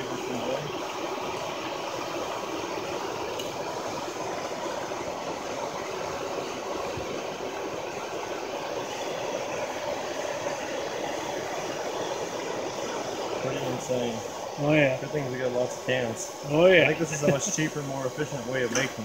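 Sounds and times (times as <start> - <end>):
charcoal fire roaring: 0.0 - 19.0
hair dryer blowing air: 0.0 - 19.0.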